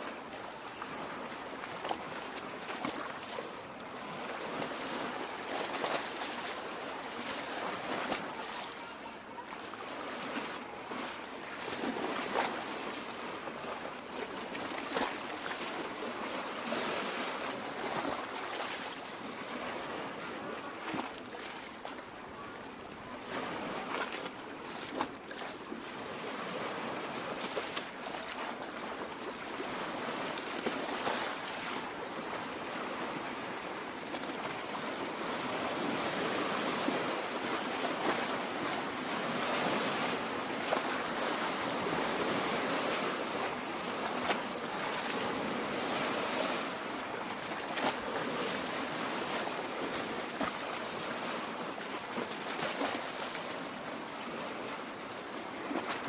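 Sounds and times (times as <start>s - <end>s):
lake water lapping at shore: 0.0s - 56.0s.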